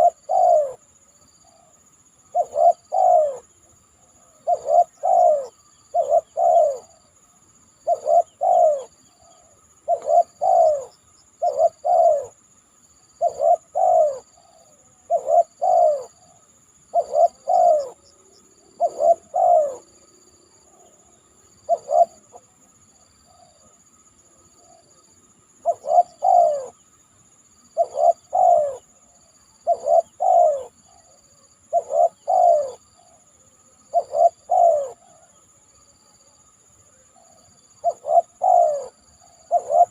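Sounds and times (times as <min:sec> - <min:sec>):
dove cooing: 0:00.0 - 0:07.1, 0:07.8 - 0:12.4, 0:13.2 - 0:22.6, 0:23.2 - 0:23.8, 0:24.6 - 0:26.8, 0:27.8 - 0:35.4, 0:37.1 - 0:39.9.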